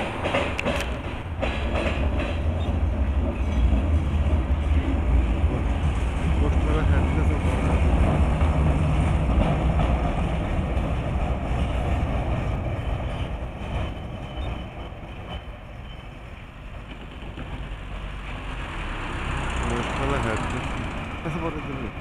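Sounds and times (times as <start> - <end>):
tram passing on tracks: 0.0 - 22.0.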